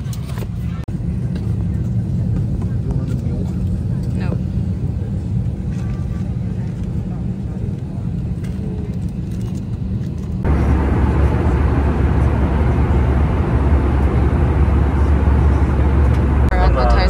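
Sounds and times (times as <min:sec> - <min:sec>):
airliner cabin engine hum: 0:00.0 - 0:17.0
cabin noise low rumble: 0:00.0 - 0:17.0.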